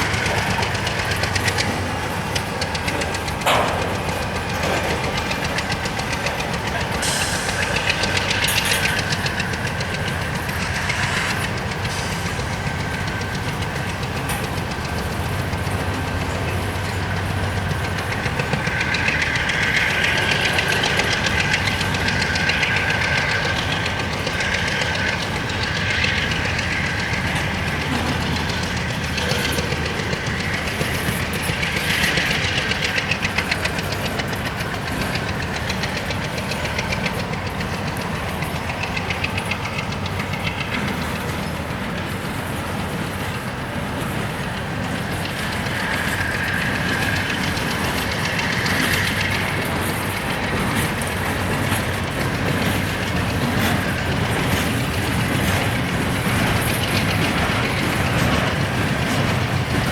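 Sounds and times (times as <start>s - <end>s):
train wheels clicking over rail joints: 0.0s - 59.9s
wheel squeal on rail: 0.0s - 59.9s.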